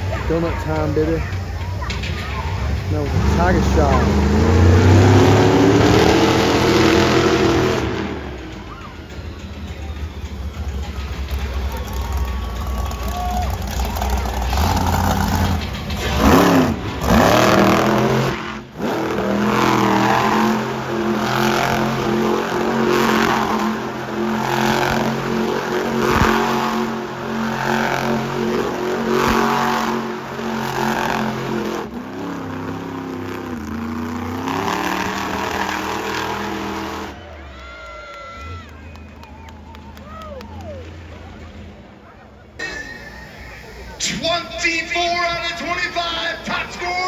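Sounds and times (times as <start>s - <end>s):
truck engine revving: 0.0s - 37.4s, 38.7s - 47.0s.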